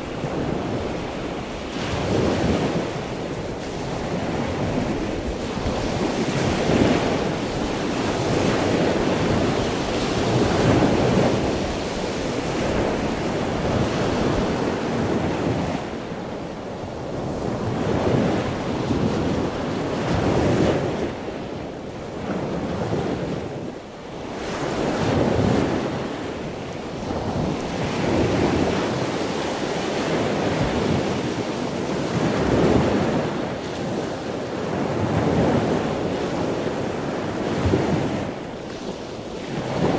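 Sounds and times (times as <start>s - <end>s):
waves breaking against a seawall: 0.0s - 39.9s
wind rushing over microphone: 0.0s - 39.9s.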